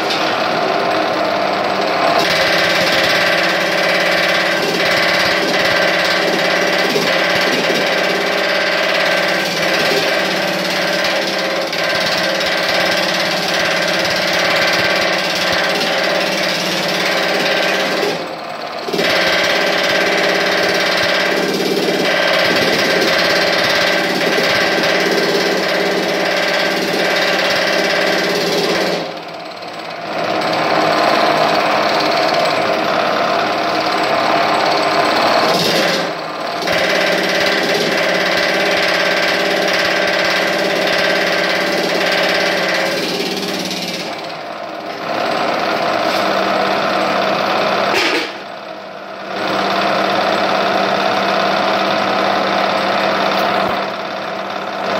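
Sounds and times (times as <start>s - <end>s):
power hammer hammering sheet metal: 0.0s - 48.6s.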